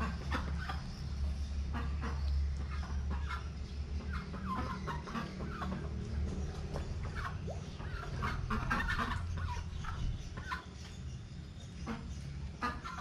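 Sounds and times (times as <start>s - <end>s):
chickens clucking: 0.0s - 11.0s, 11.8s - 13.0s
low background hum: 0.0s - 13.0s.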